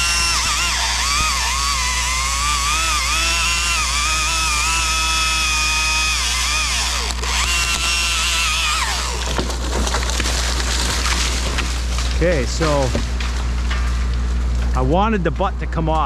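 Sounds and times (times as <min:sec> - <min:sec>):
chainsaw cutting wood: 0:00.0 - 0:12.9.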